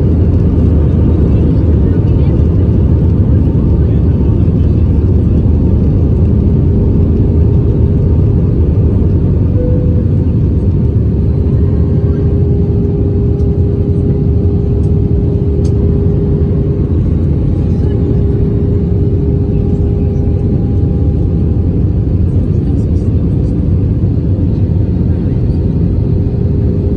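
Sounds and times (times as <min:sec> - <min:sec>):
airliner cabin engine rumble: 0:00.0 - 0:26.9
steady hum: 0:00.0 - 0:26.9.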